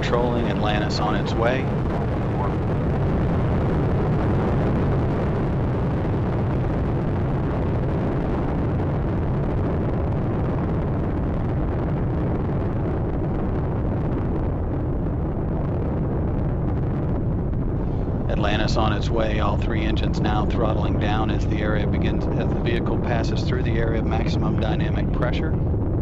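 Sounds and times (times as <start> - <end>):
rocket engines deep rumble: 0.0 - 26.0.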